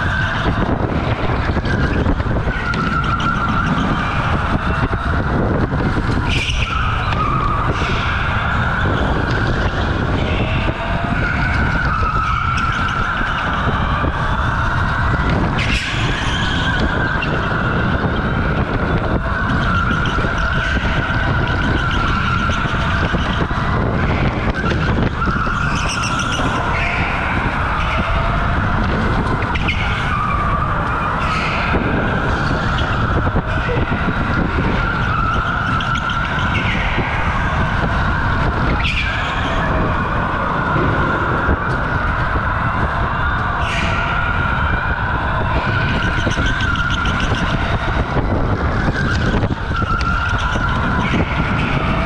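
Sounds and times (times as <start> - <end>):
steady rumble: 0.0 - 52.0.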